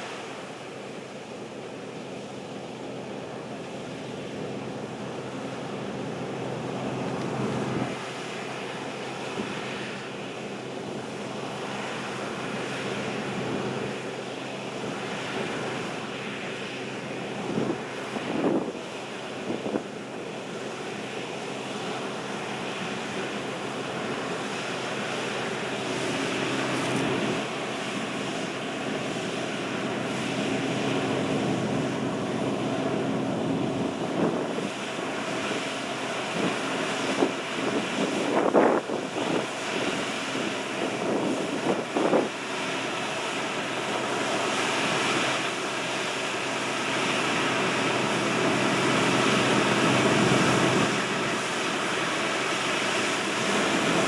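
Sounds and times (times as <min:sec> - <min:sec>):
combine harvesters droning: 0:00.0 - 0:54.0.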